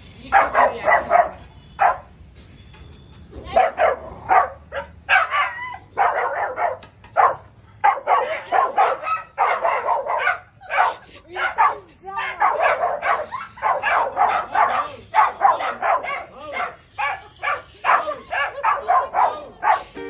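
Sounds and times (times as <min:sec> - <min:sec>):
puppy barking: 0:00.3 - 0:02.1, 0:03.4 - 0:20.0.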